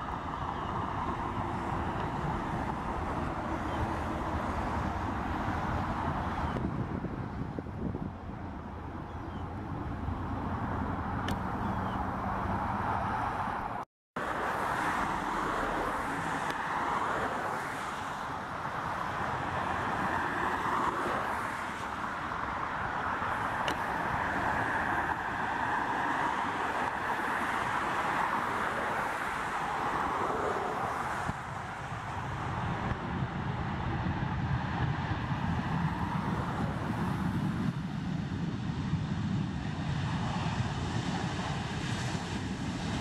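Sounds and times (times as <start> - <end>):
distant jet engines roaring: 0.0 - 43.0
road traffic noise: 0.0 - 43.0.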